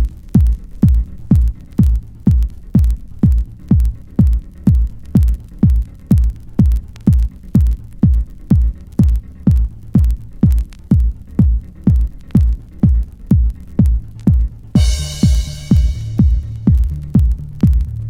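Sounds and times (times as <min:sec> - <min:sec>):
hi-hat ticks: 0:00.0 - 0:18.0
kick drum beat: 0:00.0 - 0:18.0.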